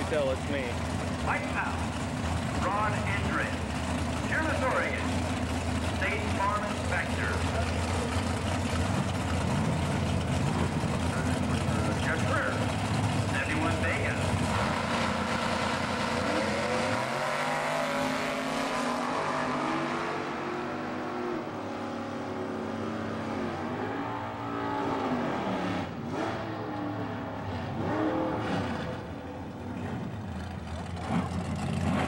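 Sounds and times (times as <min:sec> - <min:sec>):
drag car engines revving: 0:00.0 - 0:32.0.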